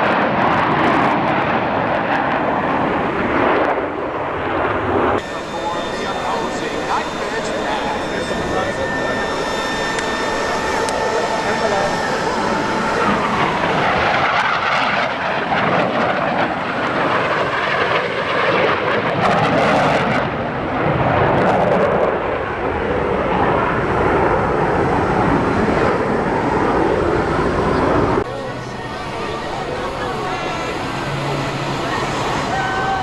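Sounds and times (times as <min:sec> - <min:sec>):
jet aircraft flying past: 0:00.0 - 0:33.0.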